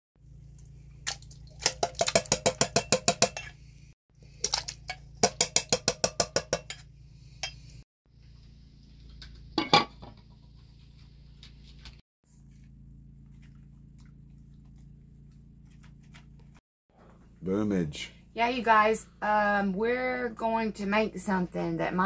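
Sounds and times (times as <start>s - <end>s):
low steady hum: 0.2s - 22.0s.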